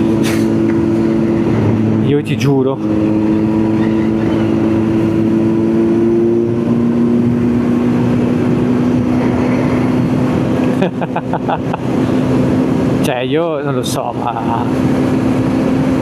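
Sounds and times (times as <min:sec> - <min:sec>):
motorcycle engine droning: 0:00.0 - 0:16.0
rushing wind noise: 0:00.0 - 0:16.0.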